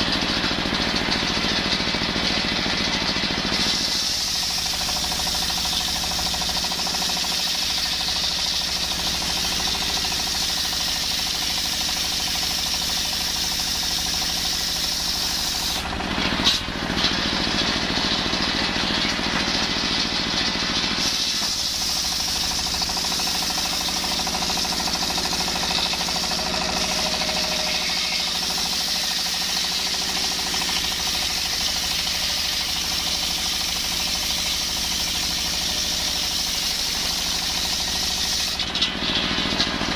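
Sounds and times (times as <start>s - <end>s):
circular saw whining through wood: 3.5s - 17.8s, 20.9s - 38.8s.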